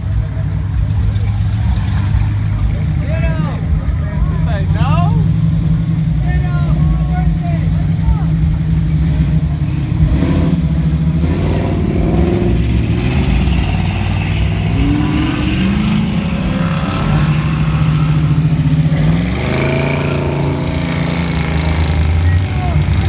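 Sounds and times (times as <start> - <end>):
car engine running and revving: 0.0 - 23.0.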